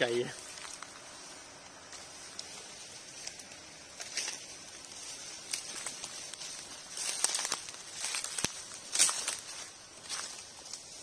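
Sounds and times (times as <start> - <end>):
footsteps crunching through dry leaves: 0.0 - 11.0.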